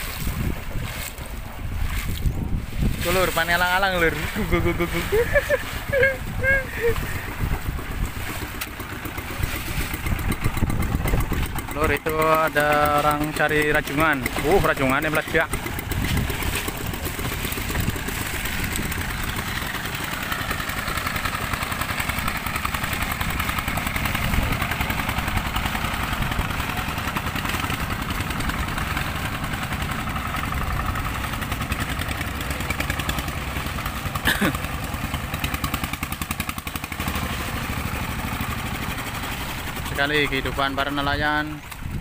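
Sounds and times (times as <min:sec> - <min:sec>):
boat engine throbbing: 0:00.0 - 0:42.0.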